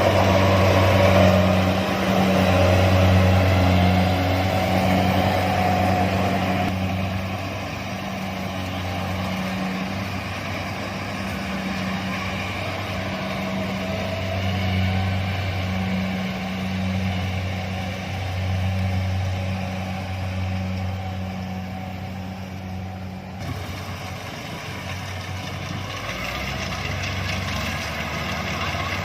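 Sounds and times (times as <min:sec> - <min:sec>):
combine harvester engine: 0:00.0 - 0:29.0.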